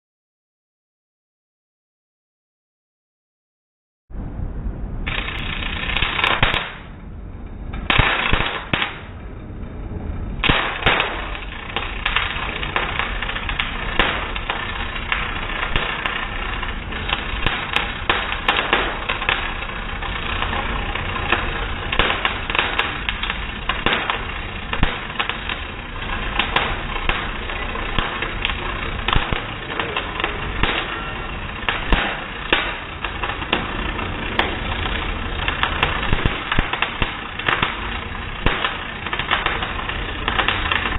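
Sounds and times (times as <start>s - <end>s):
arc welding crackle: 5.0s - 40.9s.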